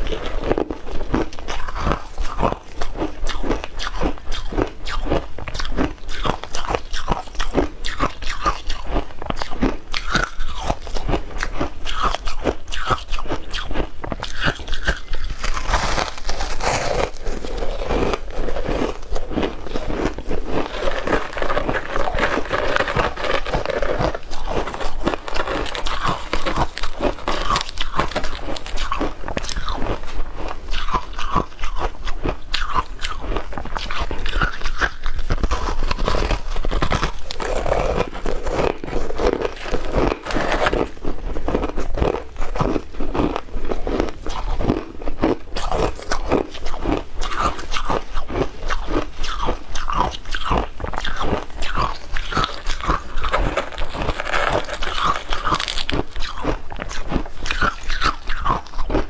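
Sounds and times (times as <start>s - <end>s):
person crunching ice: 0.0s - 59.0s.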